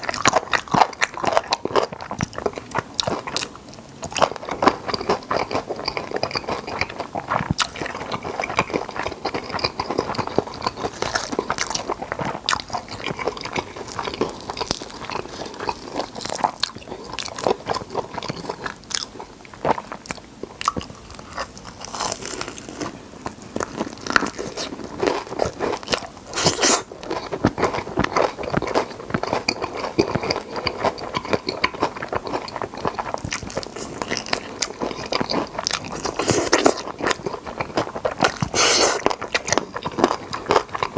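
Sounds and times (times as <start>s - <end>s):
crunching fried chicken: 0.0s - 40.9s
wet chewing: 0.0s - 40.9s.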